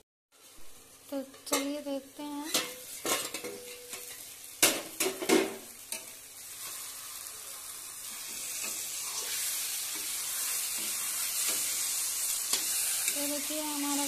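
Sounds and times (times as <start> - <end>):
vegetables sizzling in a pan: 0.4 - 14.0.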